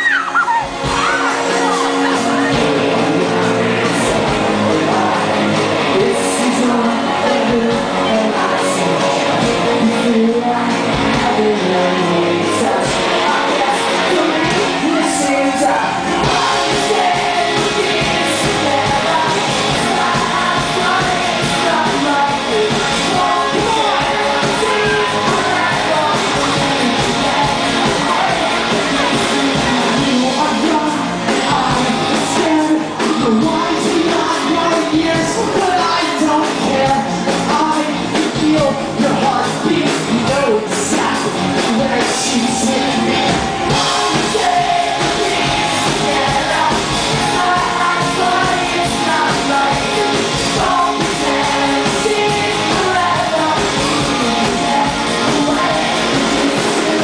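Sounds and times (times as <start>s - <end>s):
crowd shouting: 0.0s - 37.6s, 39.0s - 57.0s
live pop-rock band with singer: 0.0s - 57.0s.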